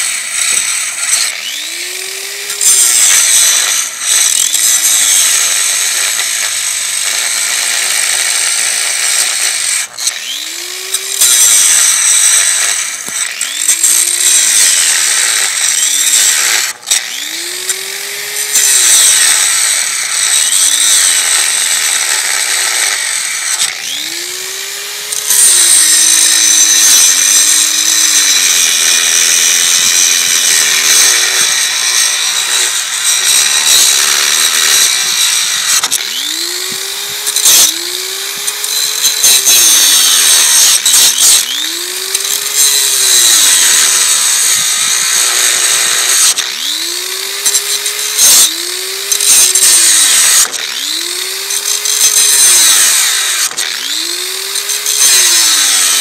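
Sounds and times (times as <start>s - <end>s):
angle grinder cutting metal: 0.0s - 56.0s.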